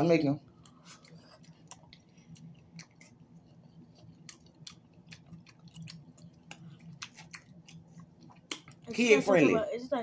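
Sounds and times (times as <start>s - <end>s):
low steady hum: 0.0s - 10.0s
person chewing: 0.5s - 9.0s.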